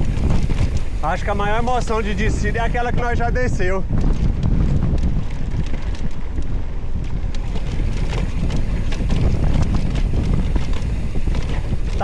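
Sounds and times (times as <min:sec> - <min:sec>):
rattles and knocks on rough trail: 0:00.0 - 0:12.0
wind buffeting microphone: 0:00.0 - 0:12.0.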